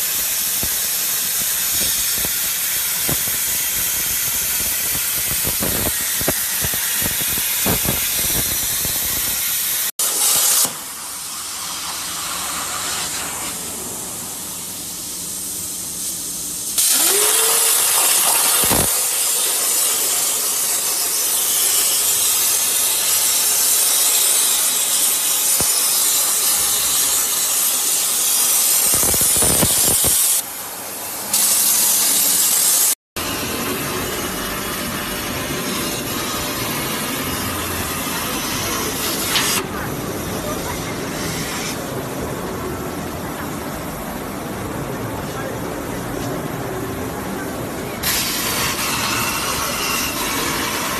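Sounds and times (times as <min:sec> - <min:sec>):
plasma torch arc hissing: 0:00.0 - 0:30.4, 0:31.0 - 0:41.8, 0:48.0 - 0:50.9.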